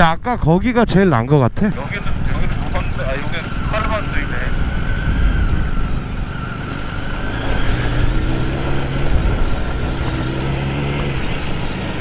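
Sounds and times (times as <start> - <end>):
wind rumble on microphone: 0.0 - 12.0
motorcycle engine running: 1.8 - 12.0.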